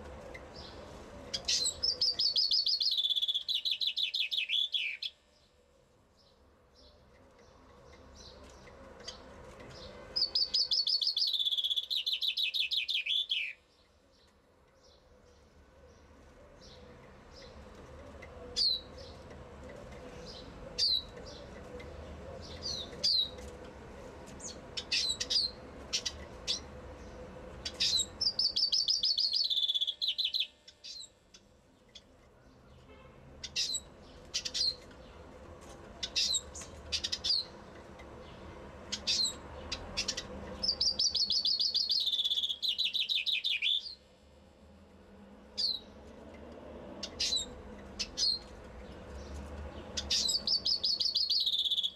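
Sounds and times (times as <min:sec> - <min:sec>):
chaffinch song: 0:00.0 - 0:51.9.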